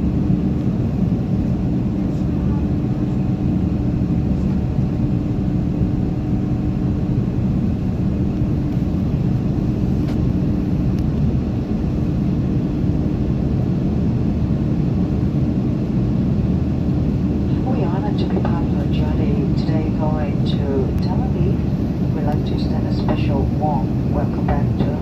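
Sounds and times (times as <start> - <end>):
aircraft cabin engine roar: 0.0 - 25.0.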